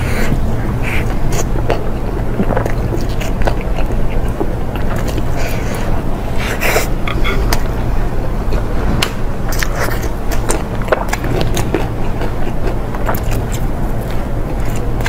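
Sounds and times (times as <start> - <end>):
wet chewing mouth clicks: 0.0 - 7.7, 9.5 - 15.0
steady low rumble: 0.0 - 15.0.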